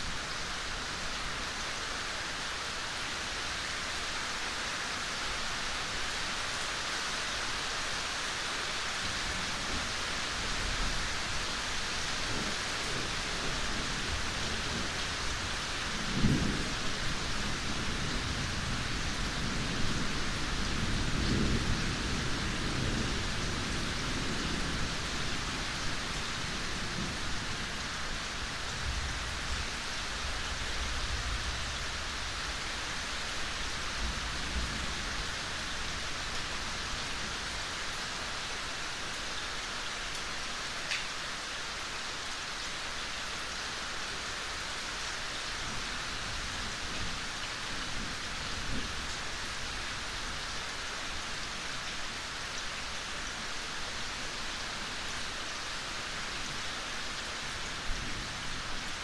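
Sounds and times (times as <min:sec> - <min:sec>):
rain pattering in forest: 0:00.0 - 0:59.0.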